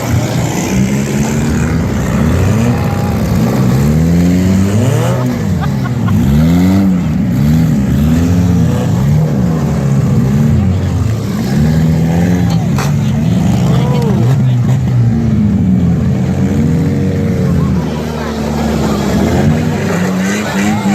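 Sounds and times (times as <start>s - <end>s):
car engines revving: 0.0s - 20.9s.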